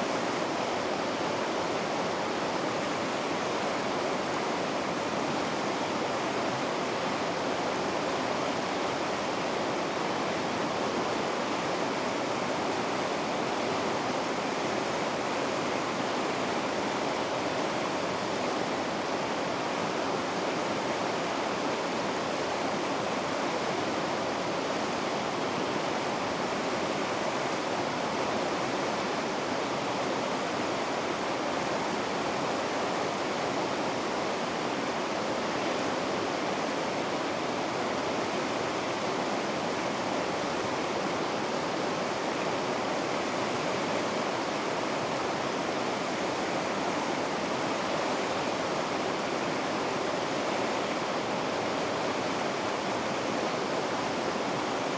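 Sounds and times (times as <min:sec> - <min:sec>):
water rushing down rapids: 0:00.0 - 0:54.9.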